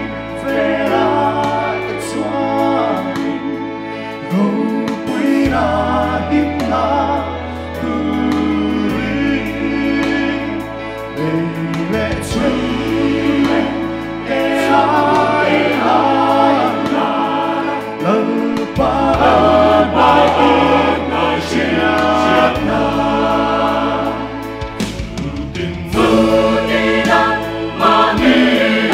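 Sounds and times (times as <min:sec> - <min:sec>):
mixed choir singing gospel: 0:00.0 - 0:28.9
sustained low bass notes: 0:05.5 - 0:28.9.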